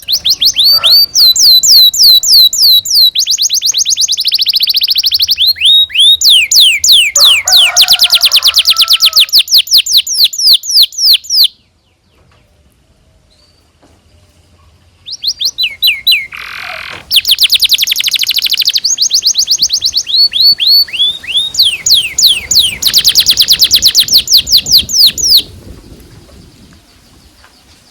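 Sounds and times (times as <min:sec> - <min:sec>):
canary singing: 0:00.0 - 0:12.0, 0:15.0 - 0:26.6.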